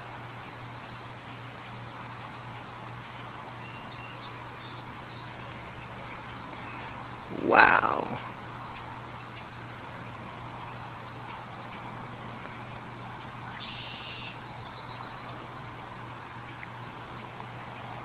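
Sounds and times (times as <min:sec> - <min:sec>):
background rumble and hiss: 0:00.0 - 0:18.0
constant low hum: 0:00.0 - 0:18.0.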